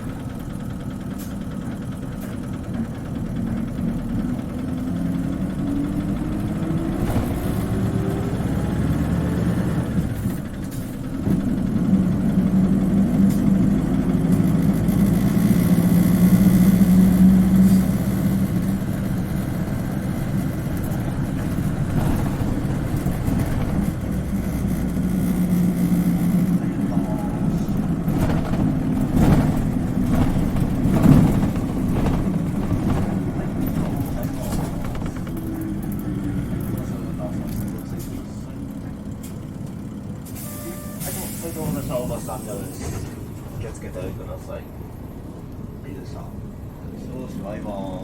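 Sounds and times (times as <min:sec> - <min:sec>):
bus engine whining: 0:00.0 - 0:48.0.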